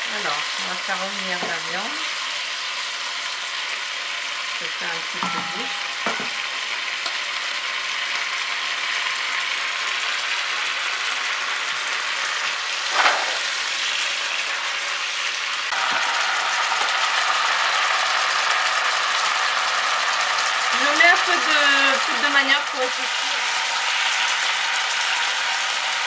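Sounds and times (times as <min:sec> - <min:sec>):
beef sizzling in hot oil: 0:00.0 - 0:26.0.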